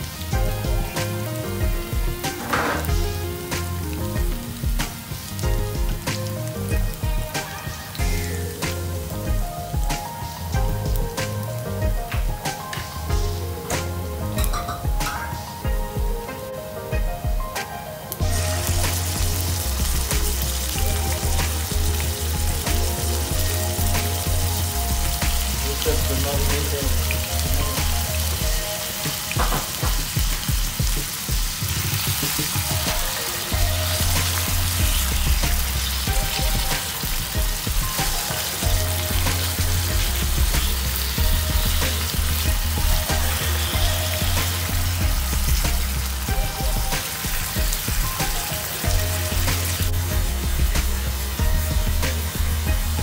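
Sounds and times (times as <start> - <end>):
meat and onions sizzling in a pan: 0.0 - 16.3, 18.1 - 53.0
background music with bass line: 0.0 - 53.0.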